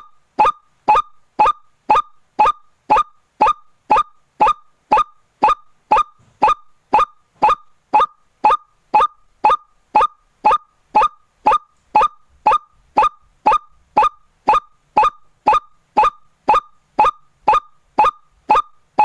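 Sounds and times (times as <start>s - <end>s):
waterhen calling: 0.0s - 19.0s.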